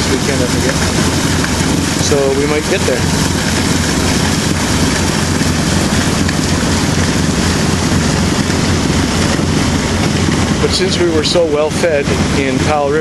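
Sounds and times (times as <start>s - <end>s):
boat engine droning: 0.0s - 13.0s
wind and water rushing: 0.0s - 13.0s.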